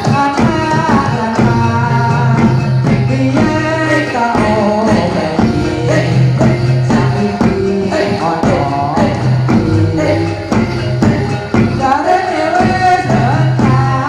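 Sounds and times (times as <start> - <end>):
held melody: 0.0 - 14.0
person singing: 0.0 - 14.0
steady percussion: 0.0 - 14.0.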